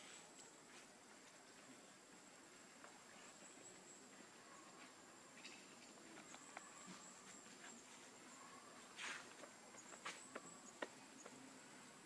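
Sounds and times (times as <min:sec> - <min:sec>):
rustle on dry leaves: 0:00.0 - 0:10.7.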